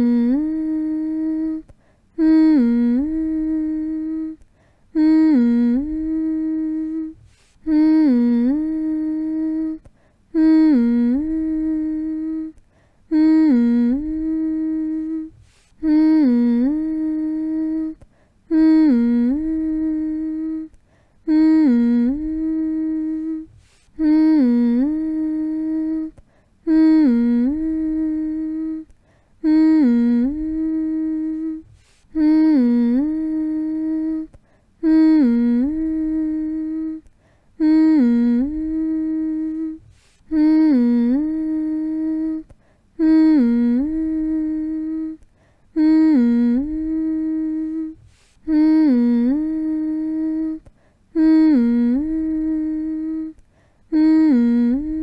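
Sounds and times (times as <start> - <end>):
person humming: 0.0 - 55.0.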